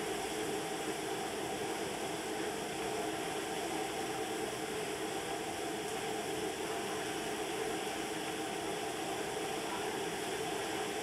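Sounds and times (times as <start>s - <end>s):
oil bubbling in wok: 0.0s - 11.0s.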